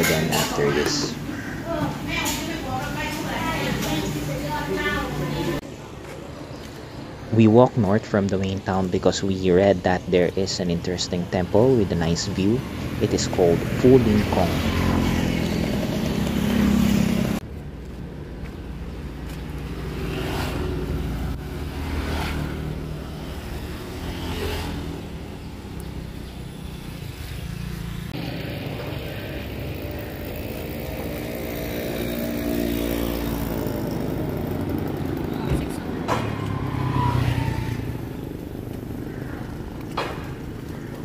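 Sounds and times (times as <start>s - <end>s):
steady engine hum: 0.0s - 41.0s
vehicles passing: 0.0s - 41.0s.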